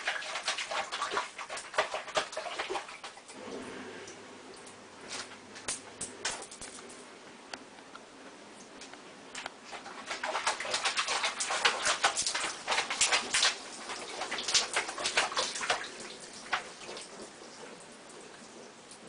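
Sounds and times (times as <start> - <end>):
water splashing in a sink: 0.0 - 6.8, 9.4 - 19.0.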